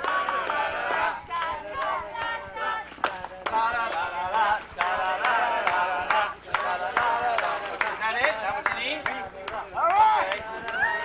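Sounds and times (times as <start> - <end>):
men singing: 0.0 - 11.0.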